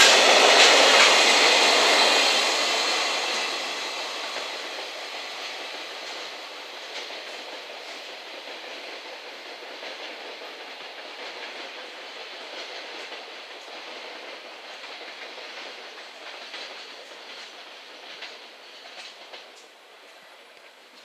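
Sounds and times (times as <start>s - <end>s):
train wheels clattering on rail joints: 0.0s - 21.0s.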